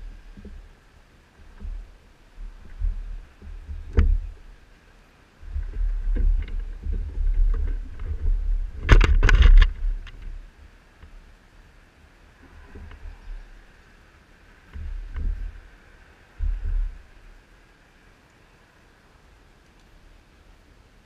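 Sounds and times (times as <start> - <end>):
low microphone rumble: 0.0 - 11.3, 12.3 - 18.1.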